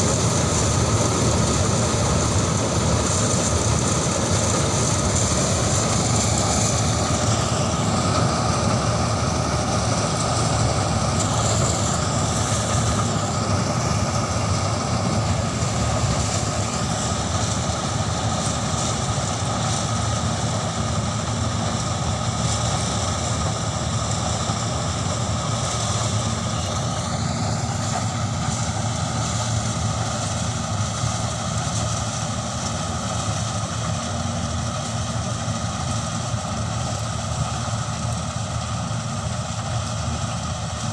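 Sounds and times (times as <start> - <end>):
harvester engine humming: 0.0 - 40.9.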